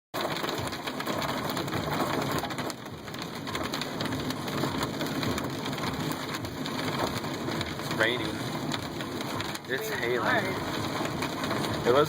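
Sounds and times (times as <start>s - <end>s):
rain and hail on car roof: 0.2s - 12.0s.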